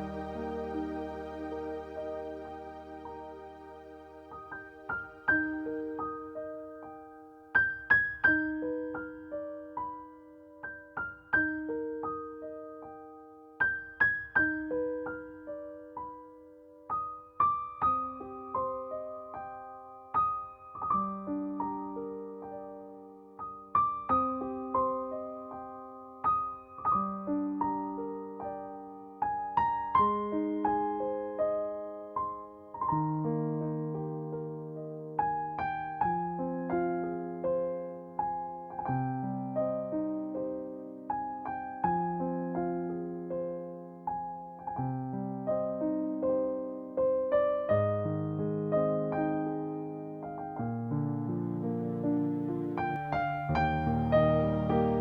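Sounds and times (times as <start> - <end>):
gentle solo piano music: 0.0 - 55.0.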